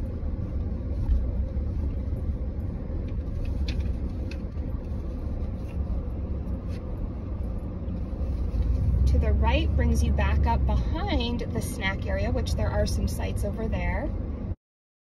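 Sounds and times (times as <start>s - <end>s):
car cabin rumble: 0.0s - 14.6s.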